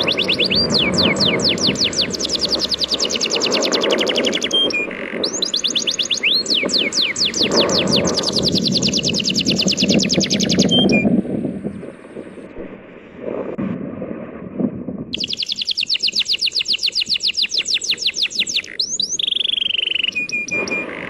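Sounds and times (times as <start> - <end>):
bird trilling: 0.0 - 11.1, 15.1 - 21.0.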